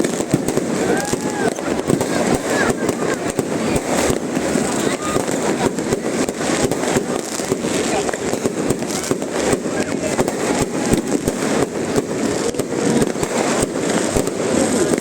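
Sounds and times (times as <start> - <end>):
fireworks bangs: 0.0 - 15.0
large crowd noise: 0.0 - 15.0.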